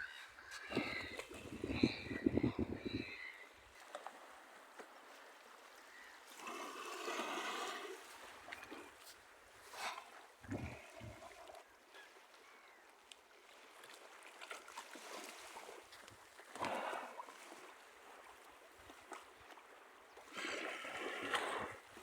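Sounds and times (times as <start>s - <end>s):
small waves lapping at shore: 0.0s - 22.0s.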